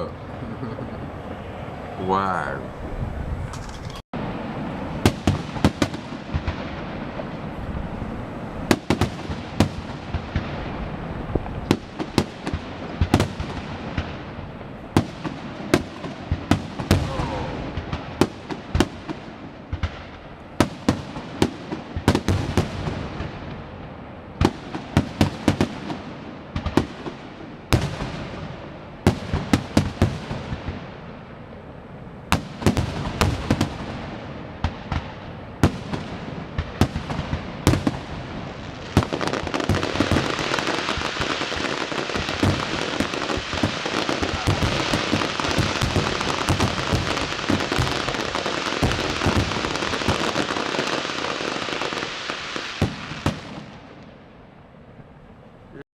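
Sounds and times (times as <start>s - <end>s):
fireworks bangs: 0.0s - 31.5s, 32.3s - 54.2s
dense fireworks crackling: 0.0s - 54.6s.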